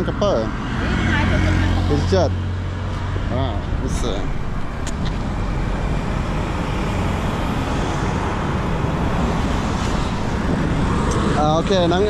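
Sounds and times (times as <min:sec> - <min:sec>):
road traffic rush: 0:00.0 - 0:12.0.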